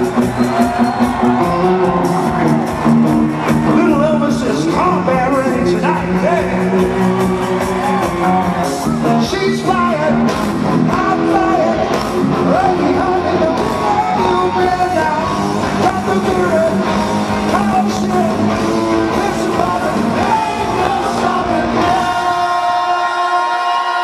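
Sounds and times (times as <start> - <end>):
live rock band playing: 0.0 - 24.0
singer singing and yelling: 0.0 - 24.0.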